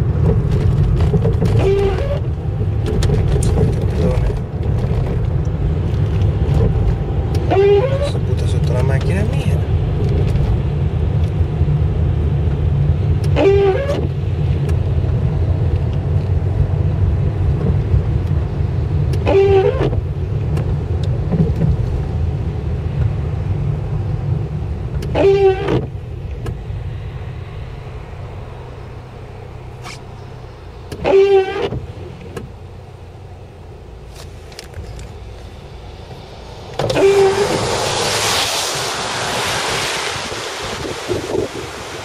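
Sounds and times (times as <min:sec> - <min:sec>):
windscreen wipers squeaking: 0:00.0 - 0:11.6, 0:12.4 - 0:42.0
car engine and road rumble: 0:00.0 - 0:42.0.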